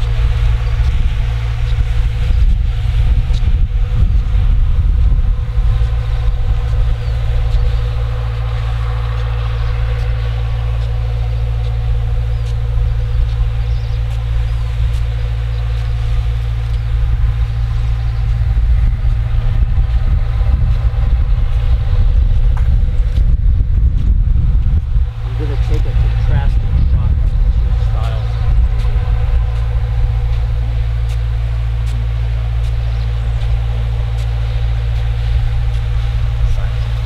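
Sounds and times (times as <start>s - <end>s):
distant diesel engine droning: 0.0s - 37.0s
steady engine whine: 0.0s - 37.0s.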